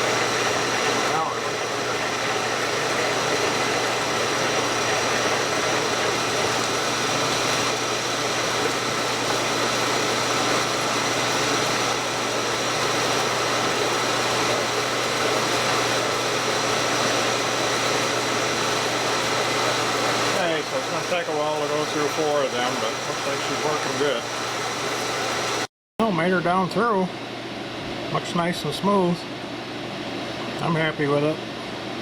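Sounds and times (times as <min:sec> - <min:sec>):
milling machine humming: 0:00.0 - 0:25.7.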